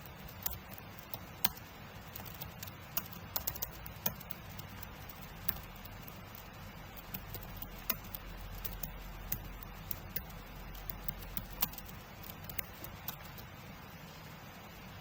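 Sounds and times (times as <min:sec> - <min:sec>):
keyboard typing clicks: 0:00.0 - 0:13.5
low steady hum: 0:00.0 - 0:15.0.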